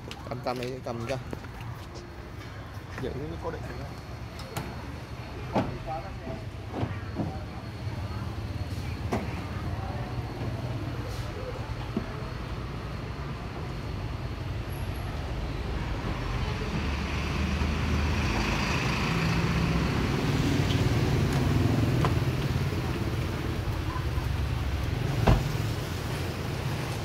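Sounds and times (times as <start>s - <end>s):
street traffic: 0.0s - 27.0s
bus engine rumble passing: 2.0s - 27.0s.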